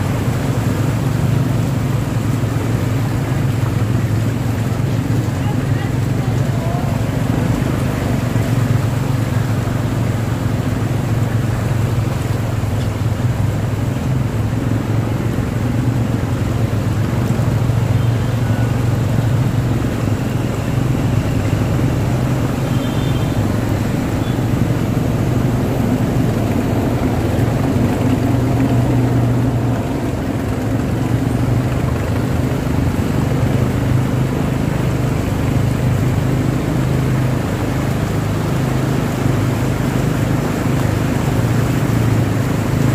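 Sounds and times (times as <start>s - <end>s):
vehicle engines rumbling: 0.0s - 42.9s
water churned by tyres: 0.0s - 42.9s.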